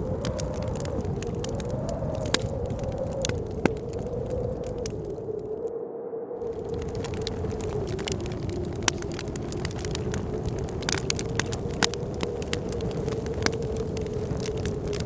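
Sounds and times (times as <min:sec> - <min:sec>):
fire crackling and popping: 0:00.0 - 0:05.7, 0:06.4 - 0:15.0
blizzard wind howling: 0:00.0 - 0:15.0.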